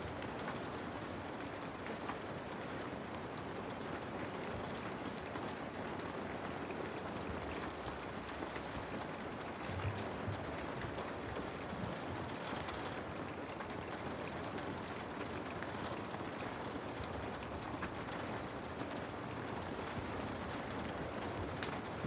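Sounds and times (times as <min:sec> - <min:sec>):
rain on a window: 0:00.0 - 0:22.0
raindrops ticking: 0:00.0 - 0:22.0.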